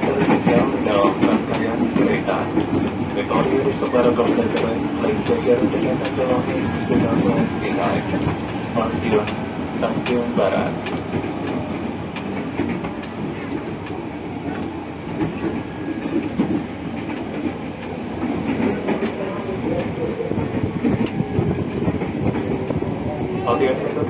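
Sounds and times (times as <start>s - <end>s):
clatter over rail joints: 0.0s - 22.7s
train wheels rumbling on rail: 0.0s - 24.0s.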